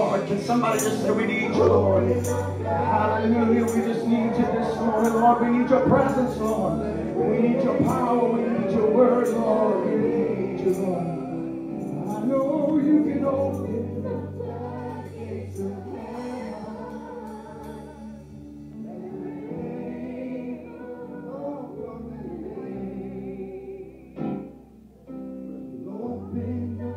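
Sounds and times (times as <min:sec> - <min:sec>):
voices singing: 0:00.0 - 0:24.4, 0:25.7 - 0:26.9
sustained keyboard chords: 0:00.0 - 0:26.9.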